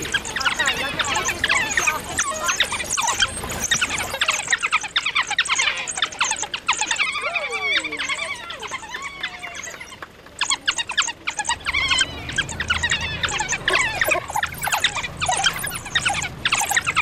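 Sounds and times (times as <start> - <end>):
dogs whining: 0.0 - 17.0
wild dogs twittering squeals: 0.0 - 17.0.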